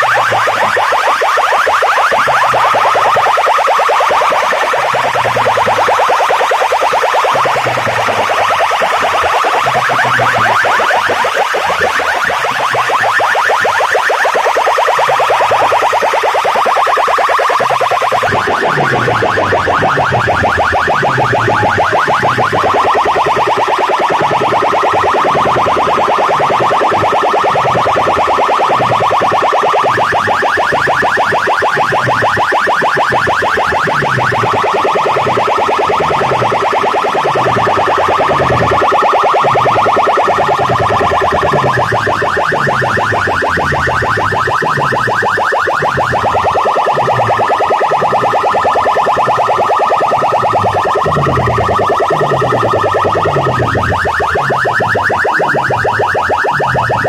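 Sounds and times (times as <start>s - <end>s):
electronic siren chirps: 0.0s - 57.0s.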